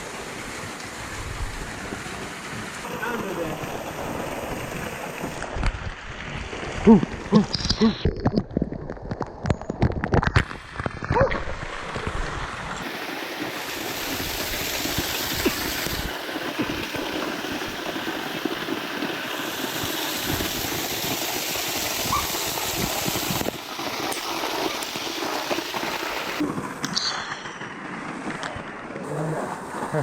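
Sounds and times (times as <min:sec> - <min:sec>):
splashing water: 0:00.0 - 0:27.2.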